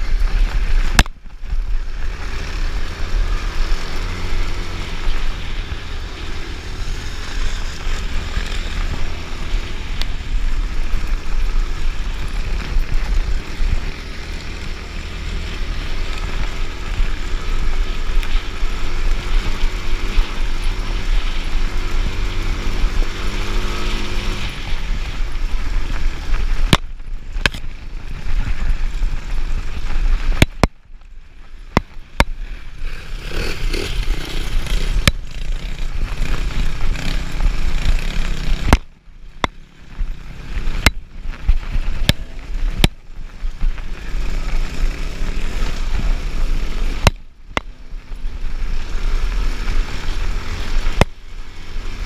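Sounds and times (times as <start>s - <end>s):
motorbike engine running: 0.0s - 52.0s
wind buffeting on helmet: 0.0s - 52.0s.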